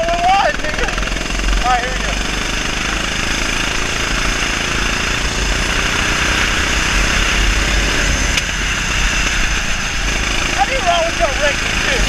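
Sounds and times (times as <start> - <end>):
kart engine running: 0.0 - 12.0.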